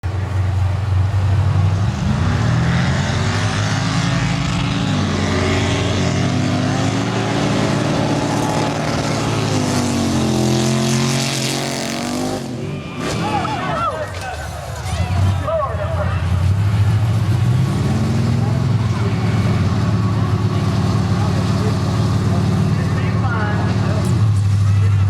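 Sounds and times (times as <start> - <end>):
truck engines revving hard: 0.0 - 25.0.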